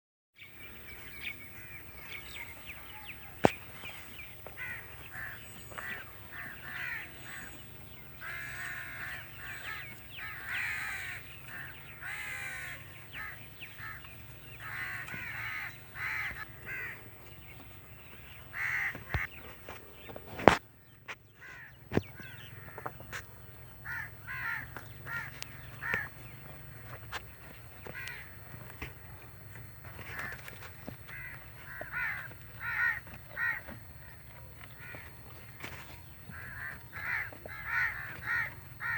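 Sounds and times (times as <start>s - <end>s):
crows cawing: 1.2s - 19.4s, 21.3s - 29.2s, 29.8s - 38.9s.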